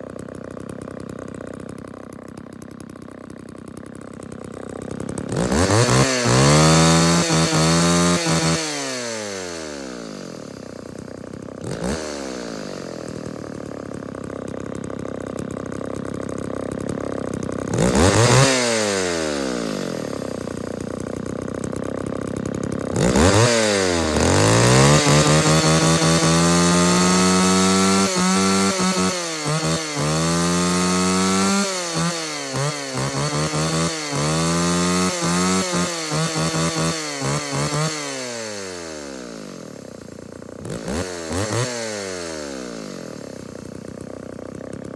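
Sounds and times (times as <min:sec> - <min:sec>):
chainsaw idling and revving: 0:00.0 - 0:44.9.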